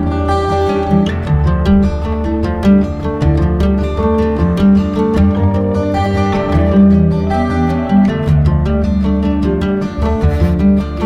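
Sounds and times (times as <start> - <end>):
bass line: 0.0 - 11.0
plucked acoustic guitar: 0.0 - 11.0.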